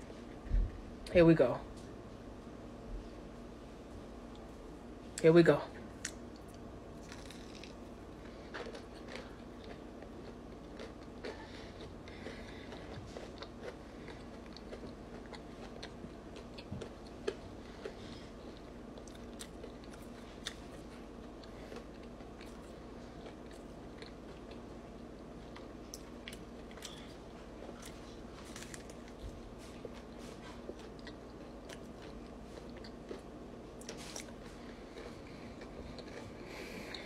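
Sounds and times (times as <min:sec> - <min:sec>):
faint steady hum: 0:00.0 - 0:37.0
person chewing crunchy food: 0:06.0 - 0:37.0.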